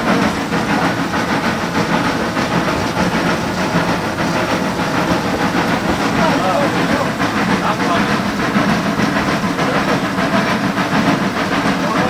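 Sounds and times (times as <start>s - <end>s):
locomotive exhaust beats: 0.0s - 12.0s
running gear and rails clattering: 0.0s - 12.0s
steam hissing: 0.0s - 12.0s.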